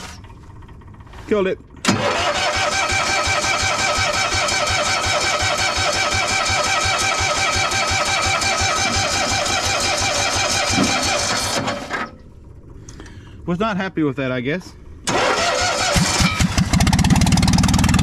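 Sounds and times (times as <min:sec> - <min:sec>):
starter motor cranking engine: 0:00.0 - 0:13.4, 0:15.0 - 0:18.0.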